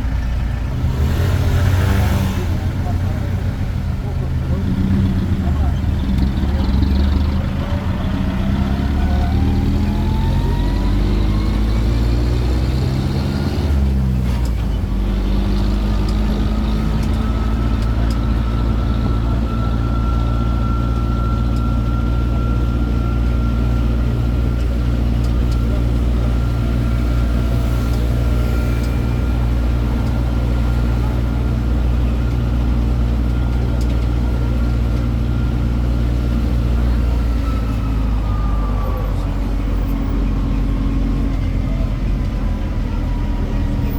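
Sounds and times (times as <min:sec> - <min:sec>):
road train engine running: 0:00.0 - 0:43.9.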